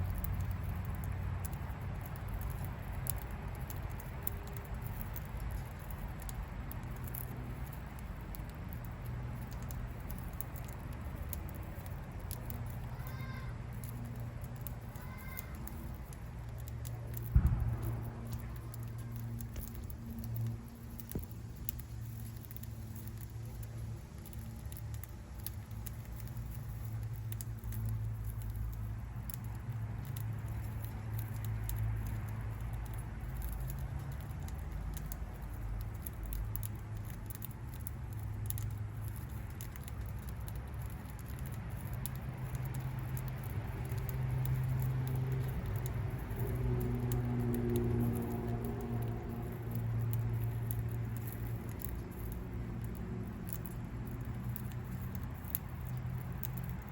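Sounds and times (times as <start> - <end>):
budgie cracking seeds: 0.0 - 56.9
low steady hum: 0.0 - 56.9.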